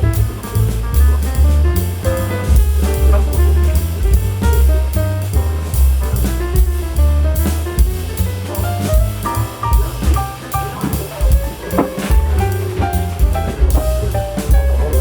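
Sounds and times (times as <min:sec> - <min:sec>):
jazzy background music: 0:00.0 - 0:15.0.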